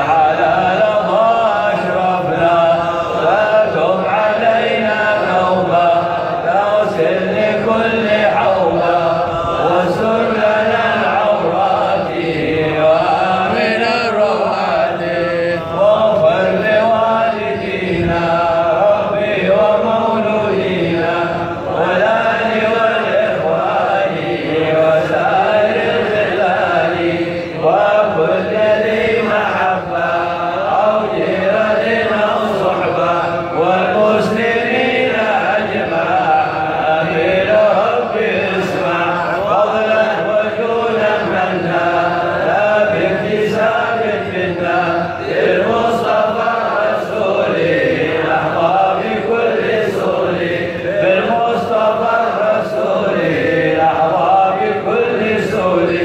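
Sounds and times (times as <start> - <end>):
man chanting into a microphone: 0.0 - 56.0.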